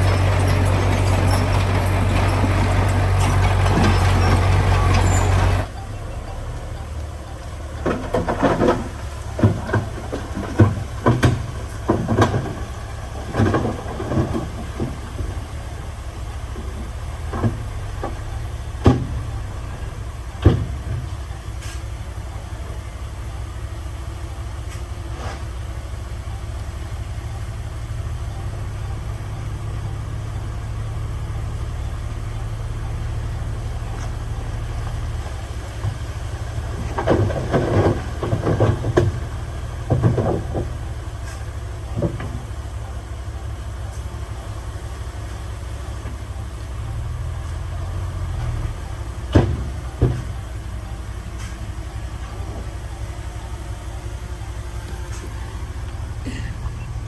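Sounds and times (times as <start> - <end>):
diesel machine engine running: 0.0 - 57.0.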